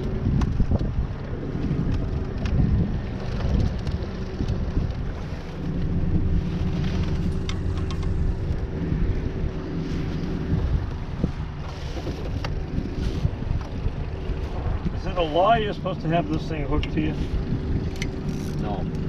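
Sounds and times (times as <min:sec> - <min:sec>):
outboard motor running: 0:00.0 - 0:19.0
wind buffeting microphone: 0:00.0 - 0:19.0.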